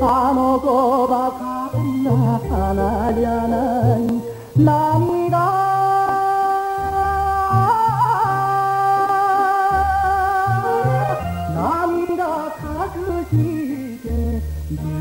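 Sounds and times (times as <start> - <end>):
bass accompaniment: 0.0 - 15.0
singing with vibrato: 0.0 - 15.0.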